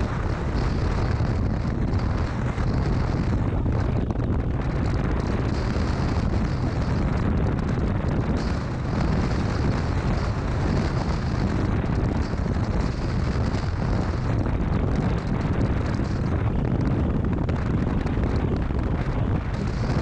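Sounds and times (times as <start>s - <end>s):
motorcycle engine: 0.0s - 20.0s
road noise: 0.0s - 20.0s
wind buffeting microphone: 0.0s - 20.0s.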